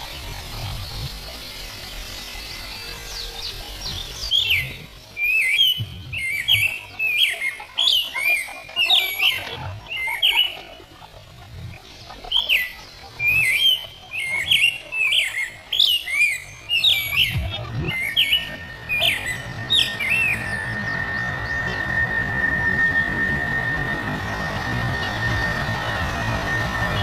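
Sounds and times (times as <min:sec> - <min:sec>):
bird-like chirping: 0:00.0 - 0:27.0.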